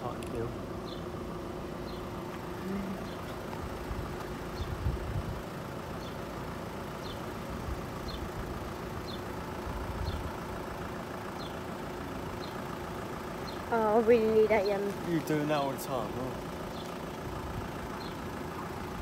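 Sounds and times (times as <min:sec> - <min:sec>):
vehicle engines idling: 0:00.0 - 0:19.0.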